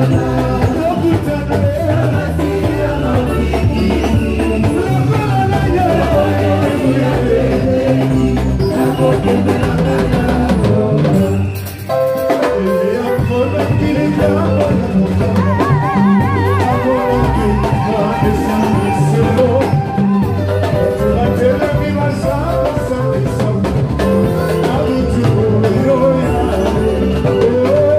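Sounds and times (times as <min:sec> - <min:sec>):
person singing: 0:00.0 - 0:11.5, 0:12.3 - 0:27.9
bass: 0:00.0 - 0:27.9
drum kit: 0:00.0 - 0:27.9
praise band playing: 0:00.0 - 0:27.9.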